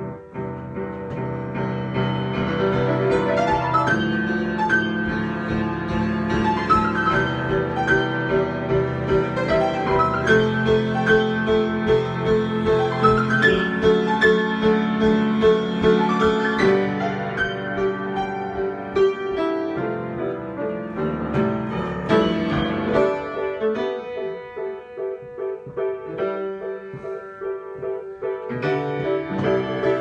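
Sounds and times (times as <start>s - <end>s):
solo piano playing: 0.0s - 30.0s.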